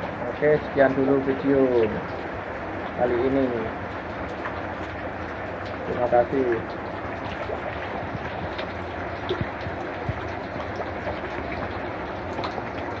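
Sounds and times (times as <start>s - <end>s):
rain falling on pond: 0.0s - 13.0s.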